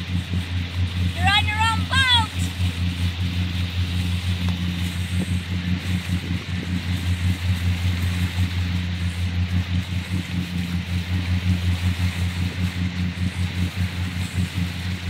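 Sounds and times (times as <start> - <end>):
churning wake rushing: 0.0 - 15.0
motorboat engine droning: 0.0 - 15.0.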